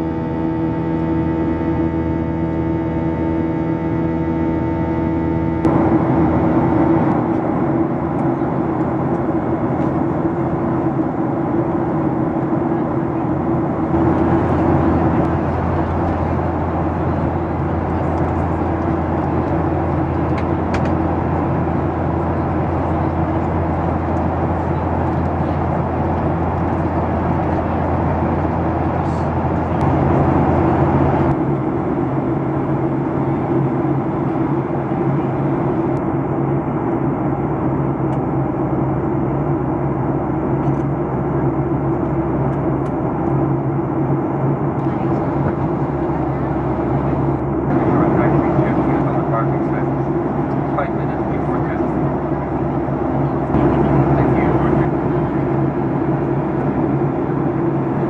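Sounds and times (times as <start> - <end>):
airflow rushing in cabin: 0.0 - 58.0
jet engines humming: 0.0 - 58.0.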